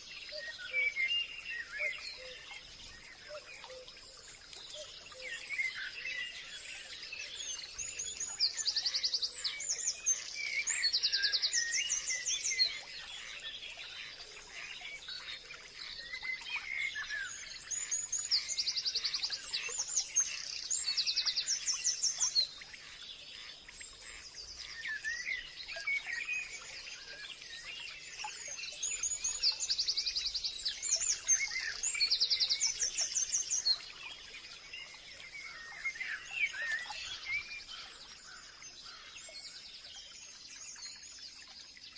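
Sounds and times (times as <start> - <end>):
birds singing and chirping: 0.0 - 41.9.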